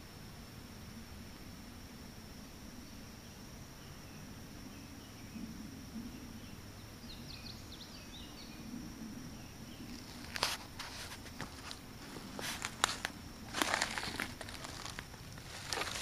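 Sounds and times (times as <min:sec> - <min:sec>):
high insect buzz: 0:00.0 - 0:16.0
birds chirping: 0:02.8 - 0:16.0.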